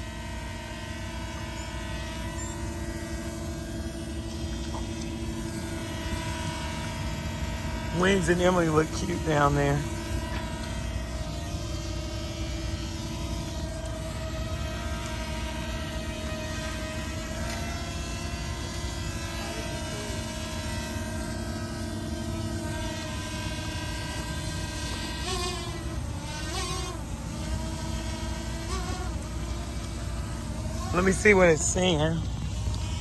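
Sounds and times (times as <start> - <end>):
drone propellers whining: 0.0 - 33.0.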